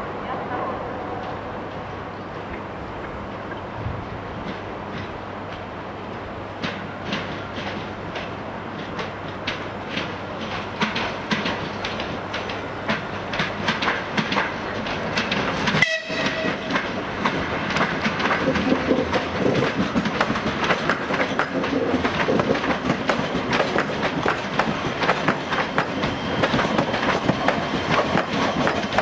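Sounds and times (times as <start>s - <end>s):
train rumble: 0.0s - 29.0s
train wheels clattering: 1.2s - 29.0s.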